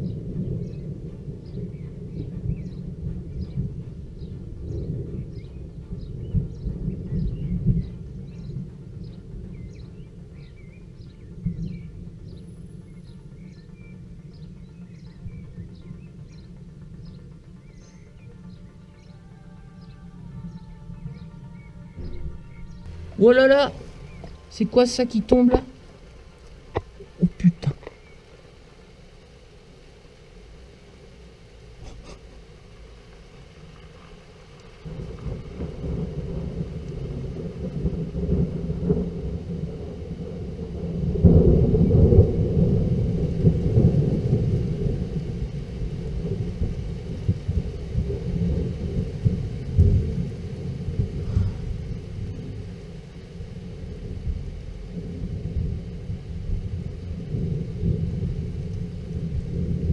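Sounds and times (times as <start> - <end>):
thunder rumbling: 0.0 - 59.9.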